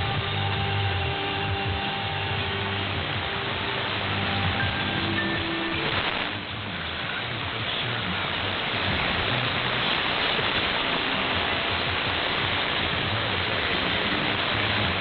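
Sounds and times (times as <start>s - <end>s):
rock music in static: 0.0s - 15.0s
shortwave radio static hiss: 0.0s - 15.0s.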